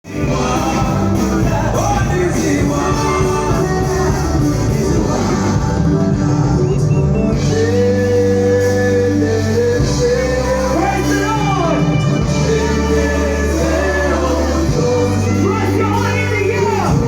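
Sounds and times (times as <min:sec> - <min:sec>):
sustained bass notes: 0:00.0 - 0:17.0
person singing long sliding notes: 0:00.1 - 0:17.0.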